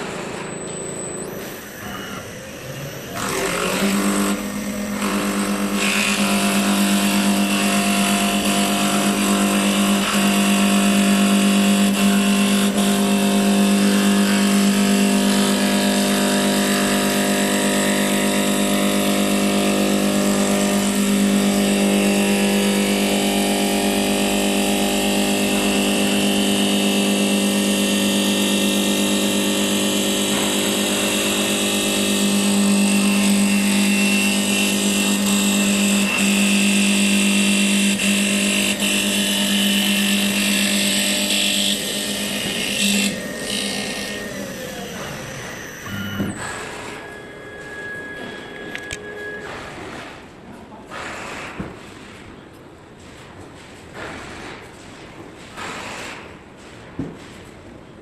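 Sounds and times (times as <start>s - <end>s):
lathe motor hum: 2.6s - 49.4s.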